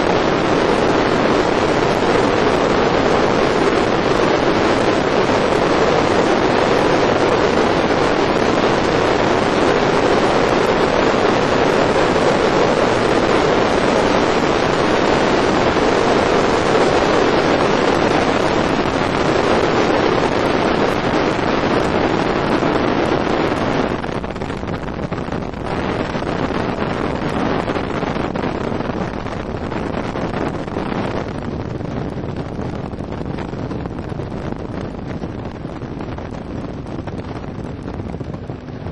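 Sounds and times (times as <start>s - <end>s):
boat engine and hull noise: 0.0s - 38.9s
wind rushing on microphone: 0.0s - 38.9s.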